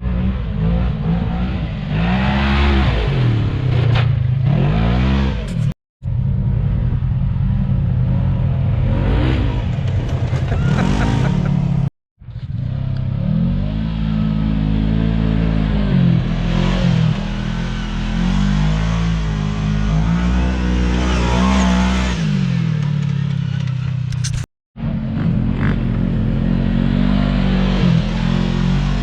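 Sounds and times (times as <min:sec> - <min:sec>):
utility vehicle engine revving: 0:00.0 - 0:05.8, 0:07.4 - 0:29.0.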